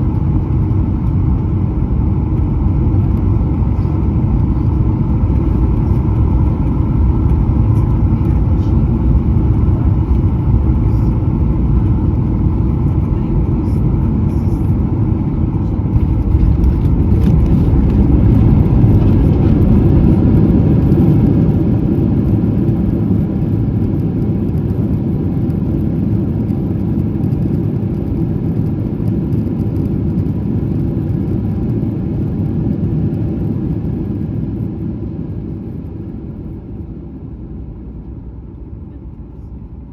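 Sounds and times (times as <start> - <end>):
jet engines and wheels rumbling: 0.0 - 39.9.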